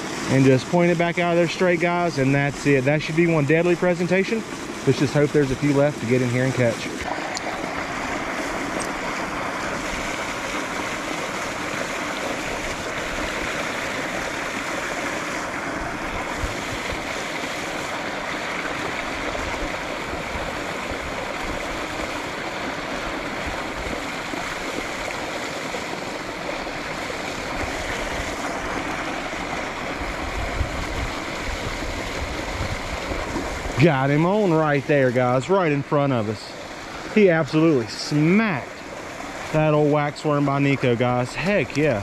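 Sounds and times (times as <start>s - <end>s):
creek water rushing over rocks: 0.0s - 42.0s.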